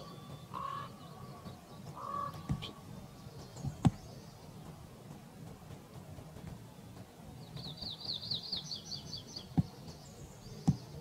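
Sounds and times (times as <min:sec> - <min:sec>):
songbird trill: 0:00.0 - 0:11.0.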